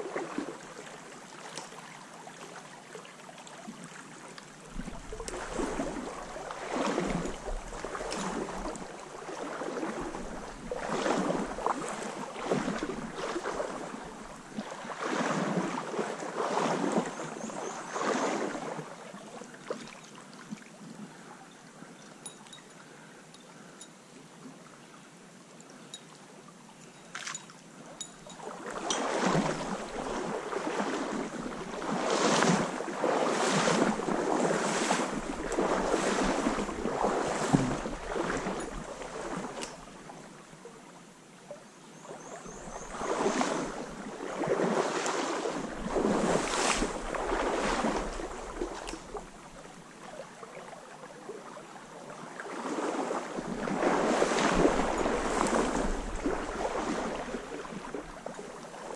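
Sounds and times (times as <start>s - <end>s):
legs wading through water: 0.0s - 23.9s, 25.6s - 40.4s, 42.0s - 58.9s
stream flowing: 0.0s - 58.9s.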